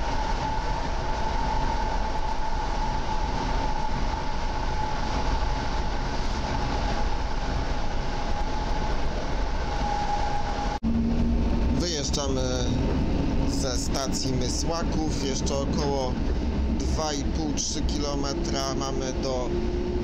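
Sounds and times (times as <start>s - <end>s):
train running rumble: 0.0s - 20.0s.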